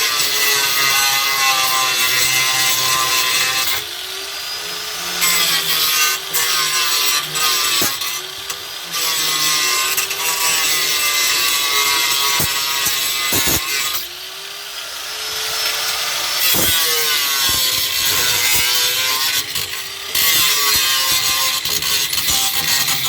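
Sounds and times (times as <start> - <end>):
power grinder on sheet metal: 0.0 - 23.0.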